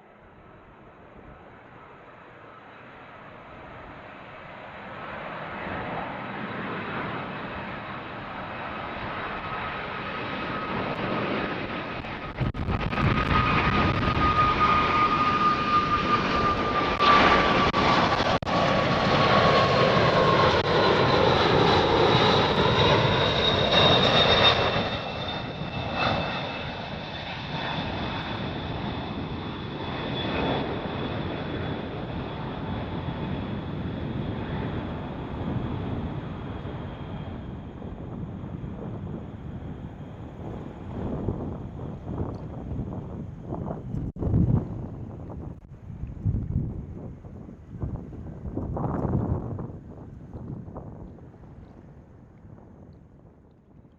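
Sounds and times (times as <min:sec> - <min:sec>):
jet airliner passing: 0:00.0 - 0:53.9
jet engine whine: 0:00.0 - 0:53.9.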